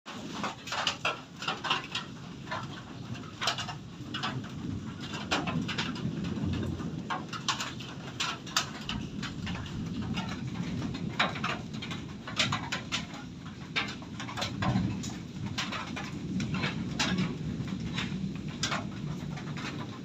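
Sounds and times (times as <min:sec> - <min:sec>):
sharp taps and patter: 0:00.2 - 0:20.0
wind rumbling: 0:01.6 - 0:20.0.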